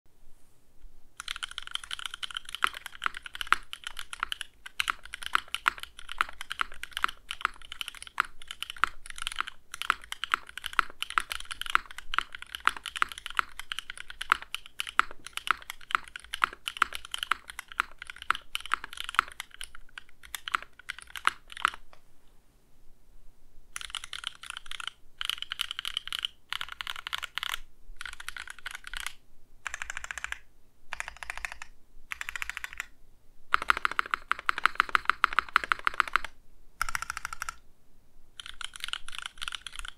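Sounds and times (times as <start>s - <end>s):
mechanical keyboard typing: 1.2s - 21.9s, 23.8s - 32.9s, 33.5s - 37.6s, 38.4s - 39.9s.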